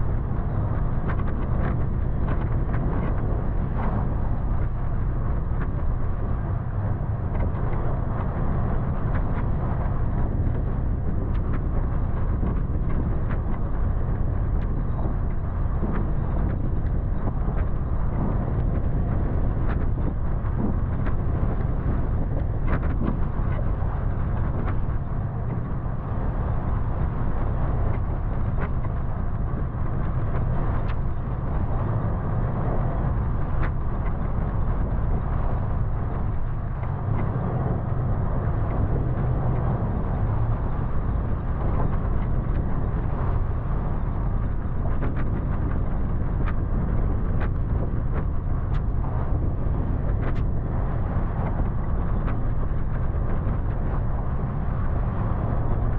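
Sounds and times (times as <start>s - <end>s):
vehicle rumbling on dirt trail: 0.0s - 55.9s.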